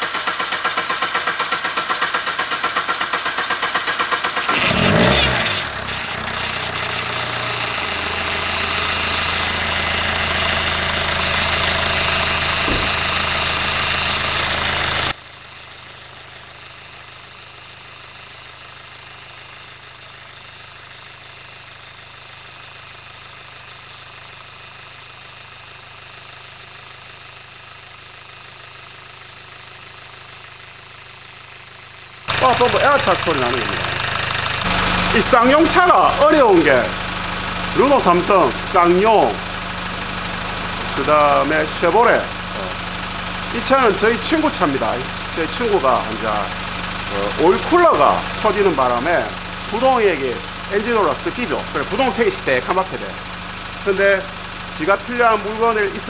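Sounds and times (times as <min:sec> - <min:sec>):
diesel engine cranking and running: 0:00.0 - 0:56.0.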